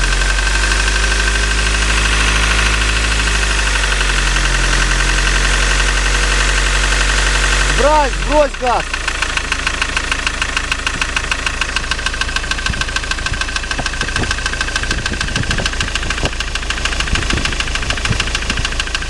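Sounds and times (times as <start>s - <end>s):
diesel engine idling: 0.0s - 19.0s
rapid even engine knock: 0.0s - 19.0s.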